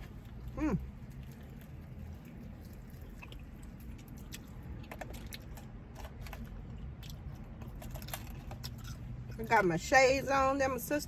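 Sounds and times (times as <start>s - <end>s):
crunching crispy fried chicken: 0.0s - 9.6s
low steady rumble: 0.0s - 11.0s.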